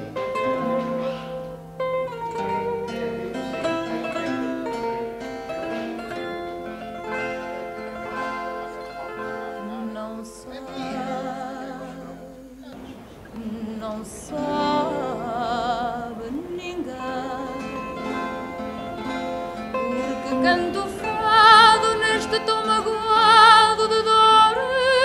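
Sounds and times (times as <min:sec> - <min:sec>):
person singing: 0:00.0 - 0:25.0
plucked guitar: 0:00.0 - 0:25.0.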